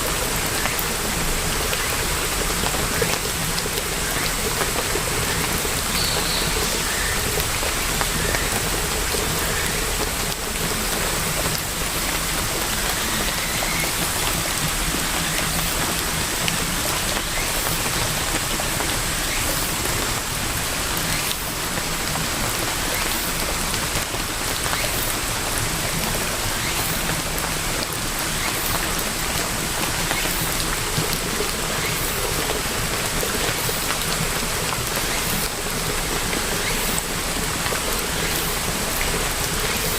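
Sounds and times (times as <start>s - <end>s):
raindrops ticking: 0.0s - 39.9s
steady rainfall: 0.0s - 39.9s.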